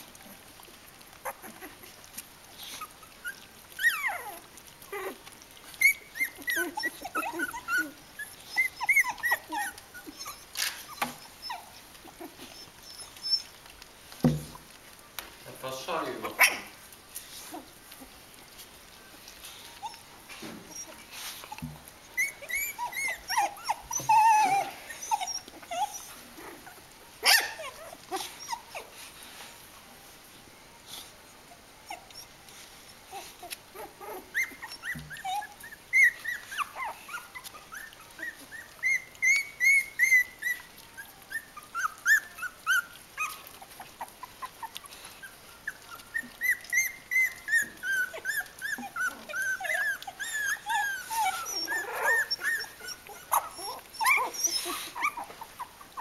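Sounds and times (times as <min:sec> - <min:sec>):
puppies squeaking and whimpering: 0:00.0 - 0:29.4, 0:31.0 - 0:56.0.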